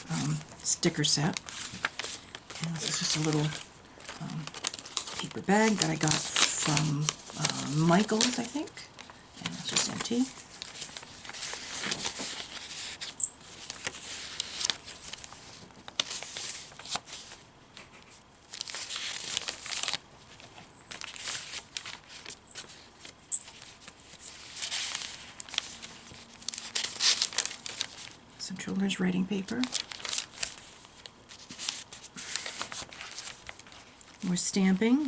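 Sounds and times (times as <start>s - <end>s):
paper pages rustling: 0.0s - 28.4s, 29.4s - 35.0s.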